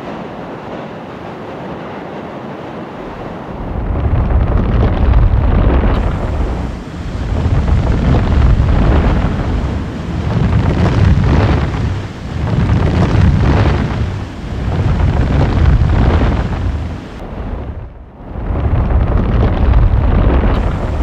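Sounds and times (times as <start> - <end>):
lava lake deep rumbling roar: 0.0 - 21.0.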